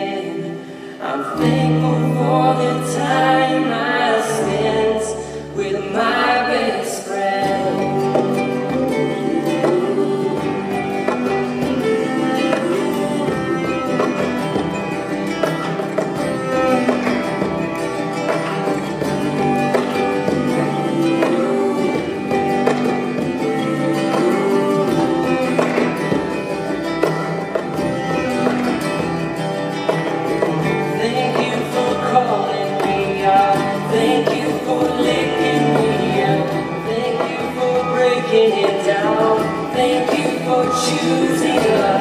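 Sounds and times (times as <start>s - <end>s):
plucked guitar: 0.0s - 42.0s.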